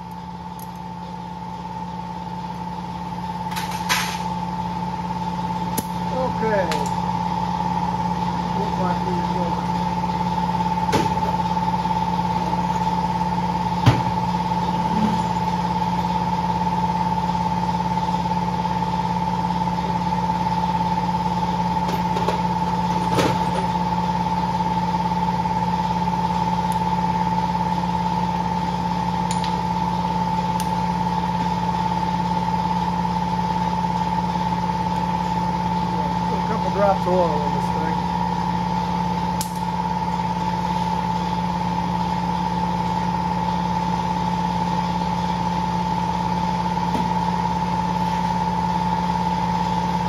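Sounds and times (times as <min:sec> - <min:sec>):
electric motor humming: 0:04.6 - 0:50.0.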